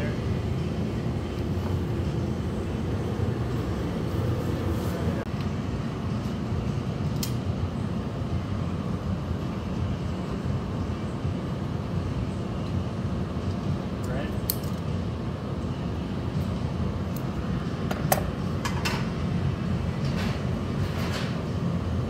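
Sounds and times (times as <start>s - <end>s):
furnace burners roaring: 0.0s - 22.0s.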